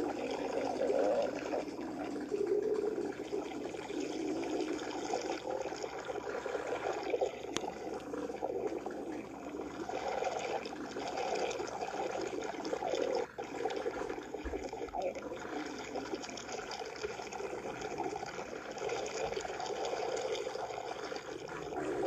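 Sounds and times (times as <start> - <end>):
stomach gurgling and growling: 0.0 - 22.0.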